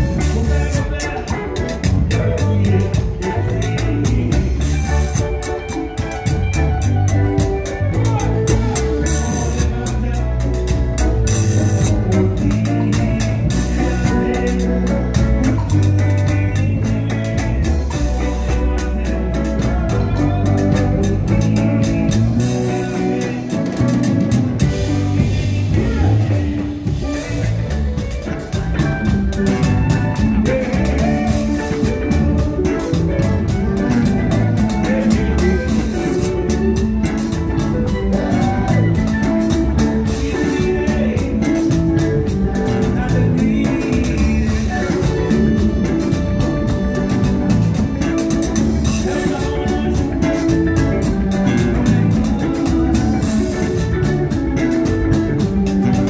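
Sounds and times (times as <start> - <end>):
congas: 0.0 - 56.0
drum kit: 0.0 - 56.0
electric bass: 0.0 - 56.0
electric guitars: 0.0 - 56.0.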